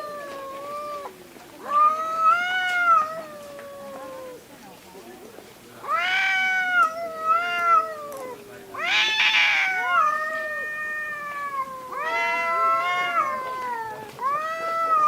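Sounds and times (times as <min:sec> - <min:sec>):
cat screeching: 0:00.0 - 0:04.4, 0:05.8 - 0:15.0
cats yowling: 0:00.0 - 0:04.4, 0:05.8 - 0:15.0.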